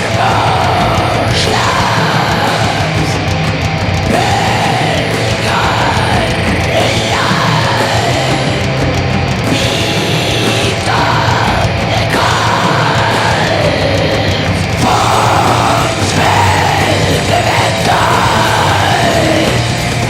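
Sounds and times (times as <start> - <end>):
harsh black metal band: 0.0 - 20.0.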